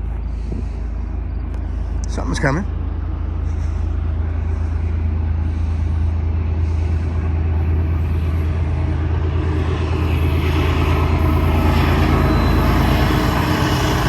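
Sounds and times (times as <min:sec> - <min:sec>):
freight train engine drone: 0:00.0 - 0:14.0.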